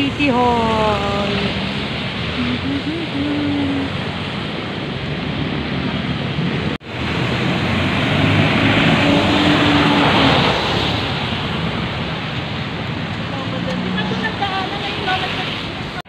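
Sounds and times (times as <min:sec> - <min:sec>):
street traffic: 0:00.0 - 0:16.0
wind buffeting microphone: 0:00.0 - 0:16.0.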